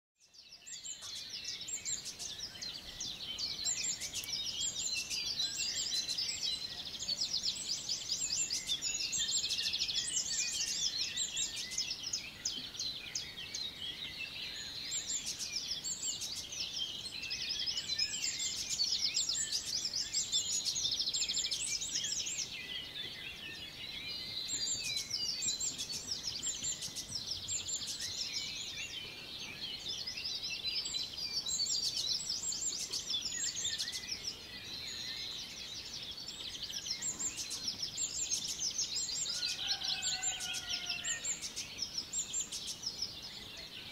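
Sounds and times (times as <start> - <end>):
songbirds chorus: 0.2 - 43.9.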